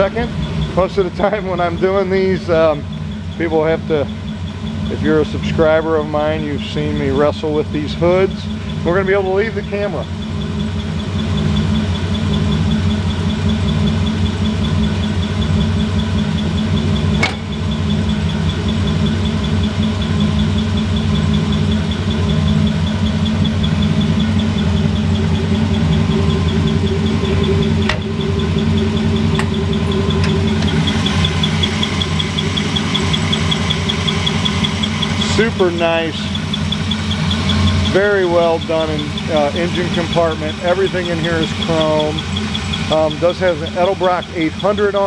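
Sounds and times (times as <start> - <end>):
car engine idling: 0.0 - 45.0.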